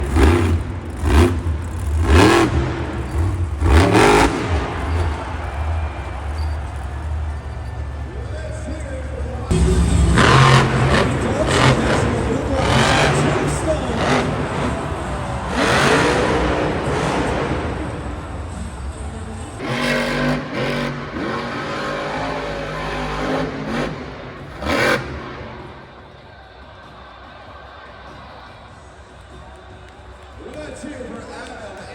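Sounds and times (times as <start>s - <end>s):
low engine rumble: 0.0s - 26.2s
truck engine revving: 0.0s - 26.2s.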